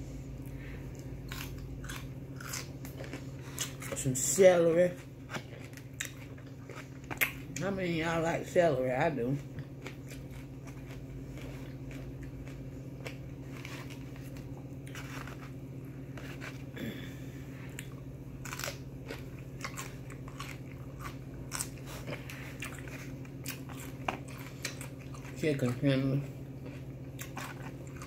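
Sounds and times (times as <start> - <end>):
steady low hum: 0.0 - 28.0
chewing crunchy celery: 0.9 - 28.0.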